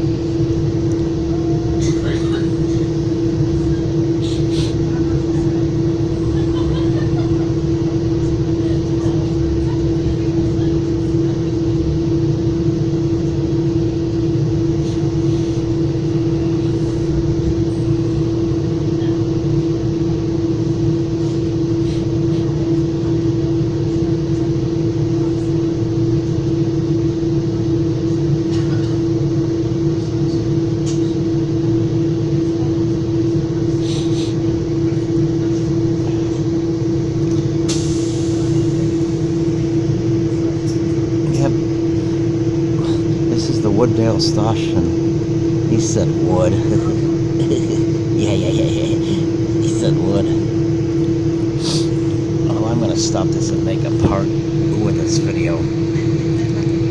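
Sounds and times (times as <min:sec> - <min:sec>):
constant hum: 0:00.0 - 0:56.9
train wheels rumbling on track: 0:00.0 - 0:56.9.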